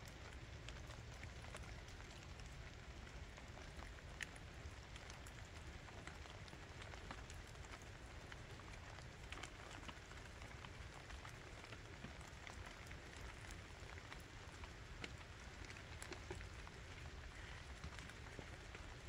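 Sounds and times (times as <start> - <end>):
rain hiss: 0.0 - 19.0
raindrops landing close by: 0.0 - 19.0.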